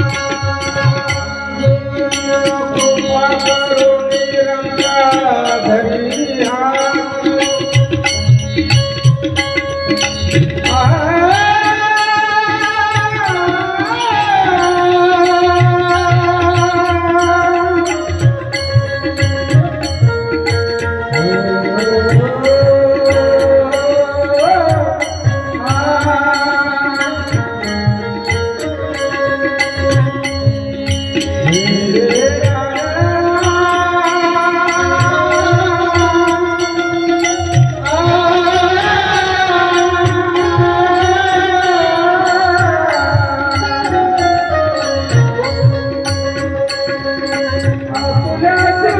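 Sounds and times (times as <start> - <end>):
man singing devotional song: 0.0 - 48.9.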